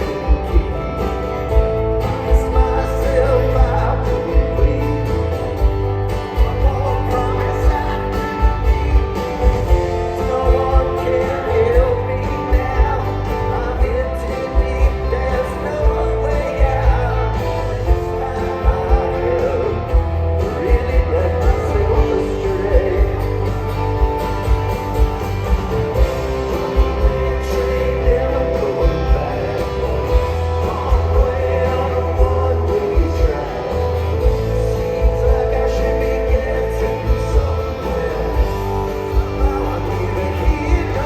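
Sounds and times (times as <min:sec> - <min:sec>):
person singing: 0:00.0 - 0:24.6, 0:26.0 - 0:41.0
live rock band: 0:00.0 - 0:41.0.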